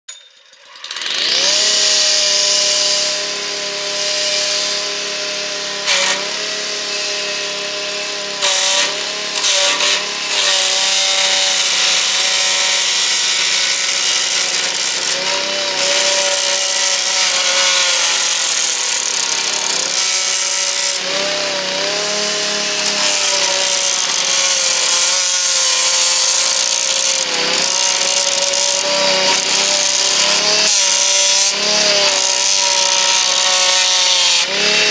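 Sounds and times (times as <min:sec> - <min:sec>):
lawn edger engine running: 0:00.4 - 0:34.9
blade cutting turf: 0:00.6 - 0:34.9.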